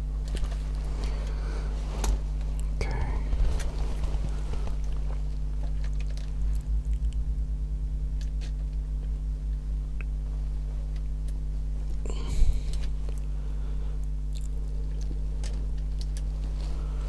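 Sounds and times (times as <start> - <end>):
low fluttering handling rumble: 0.0 - 17.0
steady low hum: 0.0 - 17.0.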